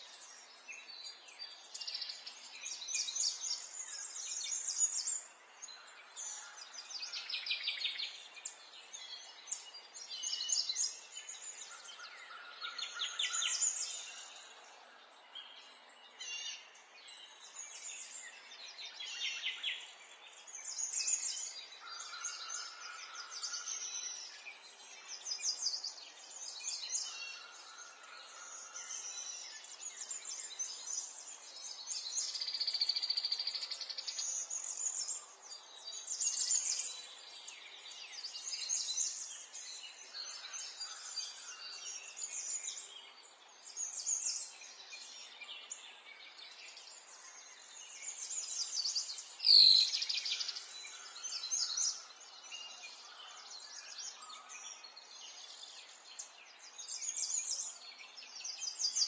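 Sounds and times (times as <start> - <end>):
chorus of songbirds: 0.0 - 59.0.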